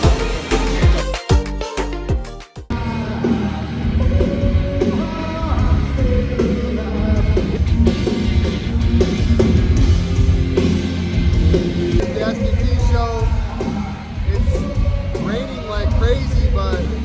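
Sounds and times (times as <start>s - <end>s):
rock music with singer: 0.0s - 17.0s.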